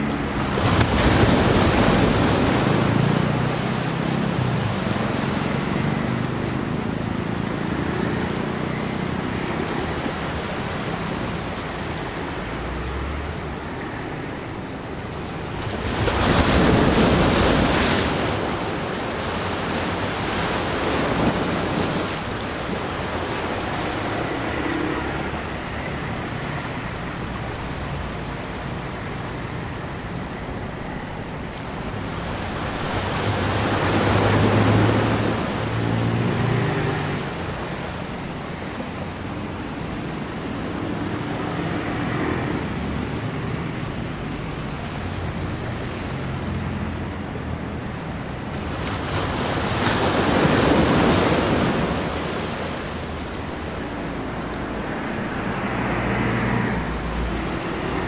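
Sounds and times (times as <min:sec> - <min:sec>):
street traffic hum: 0:00.0 - 0:58.0
waves washing over rocks: 0:00.0 - 0:58.0.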